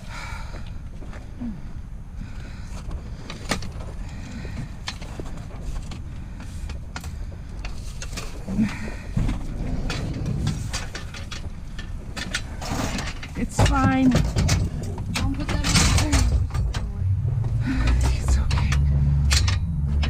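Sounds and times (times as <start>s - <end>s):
steady low rumble: 0.0s - 20.0s
scrap metal knocking and clanking: 3.2s - 20.0s.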